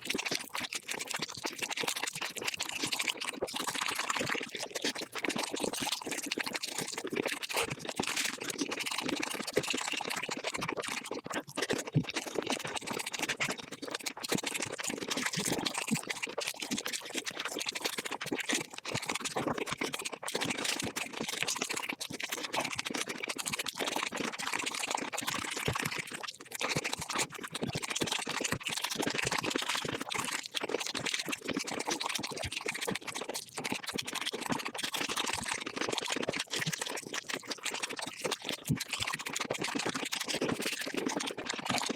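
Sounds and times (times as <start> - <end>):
person chewing and crunching chicken: 0.0 - 41.9.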